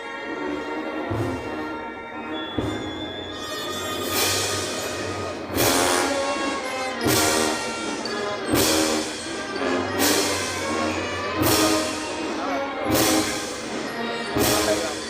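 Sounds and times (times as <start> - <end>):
brass band playing slow march: 0.0 - 15.0
drum and cymbal strikes: 2.5 - 15.0.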